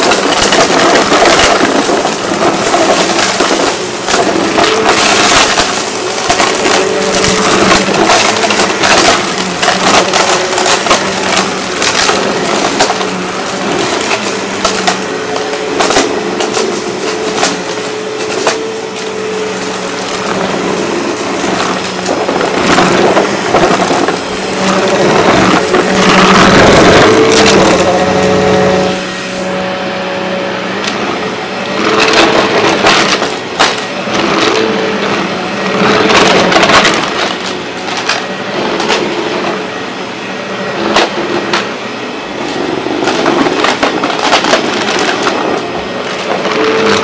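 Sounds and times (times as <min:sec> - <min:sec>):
debris clattering into vacuum: 0:00.0 - 0:47.0
vacuum cleaner motor humming: 0:00.0 - 0:47.0.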